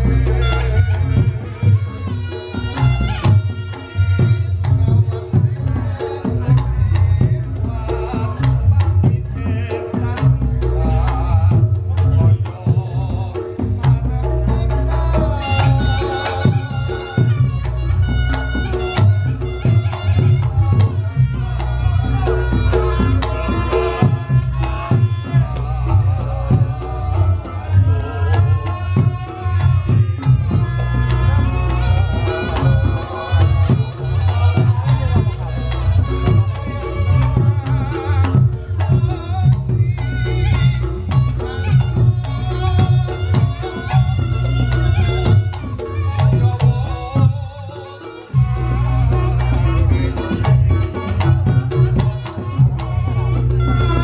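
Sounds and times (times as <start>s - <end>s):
gamelan music: 0.0s - 54.0s
hand drum strokes: 0.0s - 54.0s
heavy low bass: 2.7s - 47.6s, 48.4s - 54.0s.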